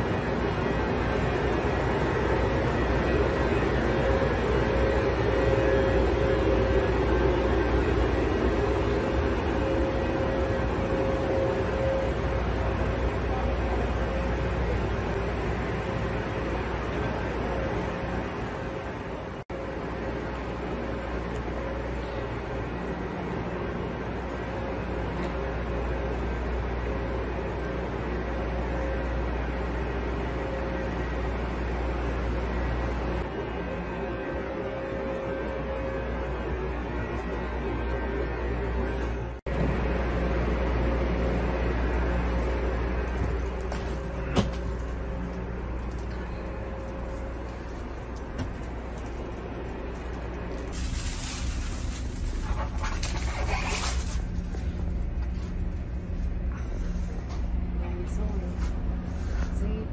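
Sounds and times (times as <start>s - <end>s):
faint steady tones: 0.0s - 52.5s
electric train hum and hiss: 0.0s - 59.9s.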